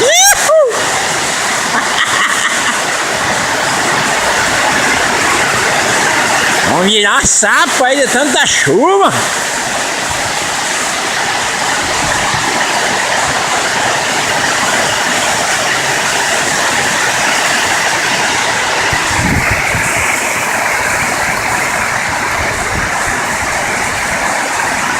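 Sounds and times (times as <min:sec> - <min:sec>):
heavy rain on shed roof: 0:00.0 - 0:24.9.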